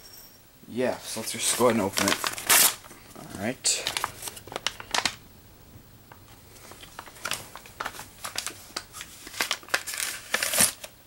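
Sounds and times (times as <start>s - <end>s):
plastic packaging crackling: 1.0s - 11.0s.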